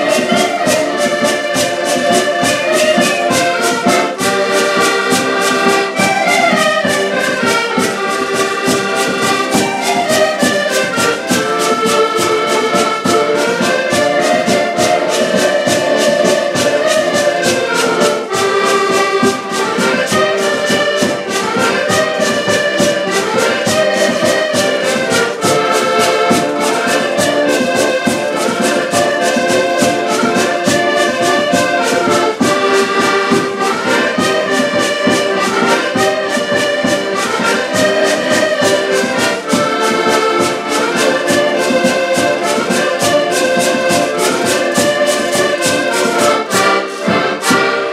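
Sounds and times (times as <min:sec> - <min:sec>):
button accordions playing: 0:00.0 - 0:47.9.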